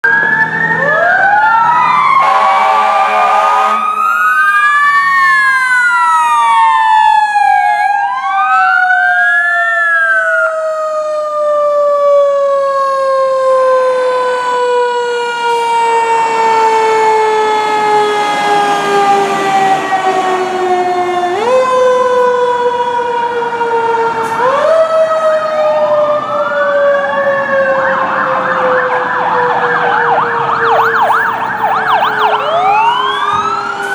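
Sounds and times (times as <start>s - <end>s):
fire engine sirens wailing: 0.0s - 33.9s.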